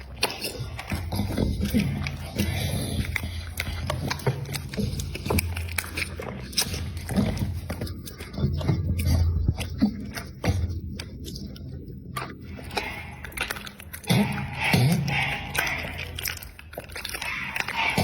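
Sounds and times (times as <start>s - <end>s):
dog chewing food: 0.0s - 18.0s.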